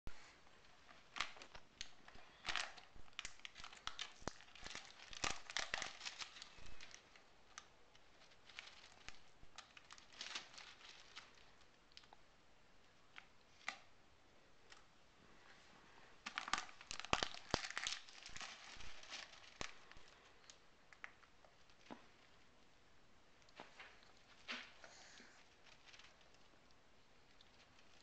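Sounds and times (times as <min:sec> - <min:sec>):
crinkling and crackling: 0:00.1 - 0:28.0.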